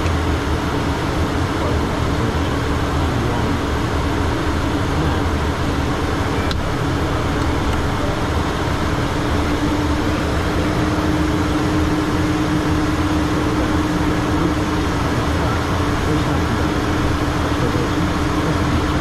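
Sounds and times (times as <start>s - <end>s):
jet engines droning: 0.0s - 19.0s
rushing airflow: 0.0s - 19.0s
steady hum: 0.0s - 19.0s.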